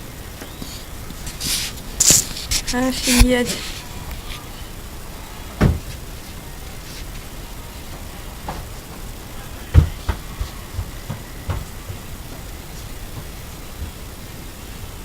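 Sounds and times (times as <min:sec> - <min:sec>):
blizzard wind hissing: 0:00.0 - 0:15.0.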